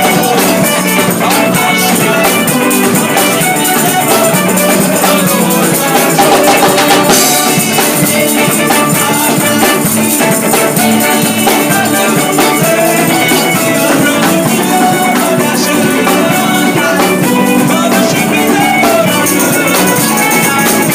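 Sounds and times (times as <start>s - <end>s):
gospel band playing: 0.0s - 20.9s.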